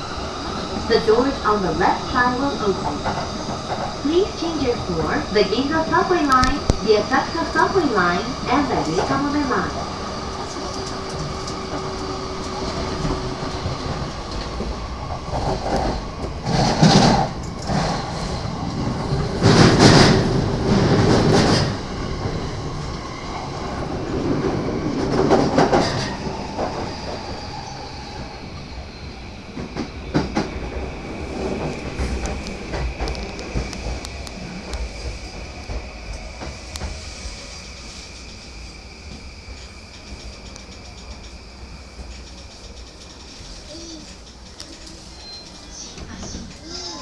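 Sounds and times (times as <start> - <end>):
train wheels on rails: 0.0 - 47.0.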